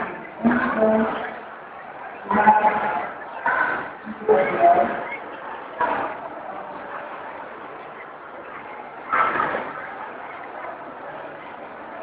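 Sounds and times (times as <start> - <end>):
crowd murmur: 0.0 - 12.0.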